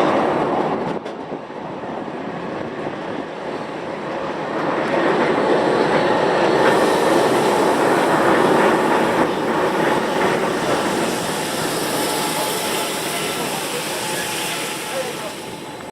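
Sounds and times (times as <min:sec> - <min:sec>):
train clacking: 0:00.0 - 0:15.9
train wheels rumbling on track: 0:00.0 - 0:15.9.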